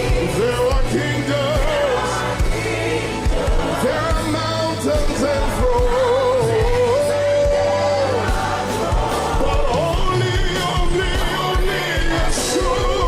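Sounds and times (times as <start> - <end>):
congregation singing: 0.0 - 13.0
worship band with drums: 0.0 - 13.0.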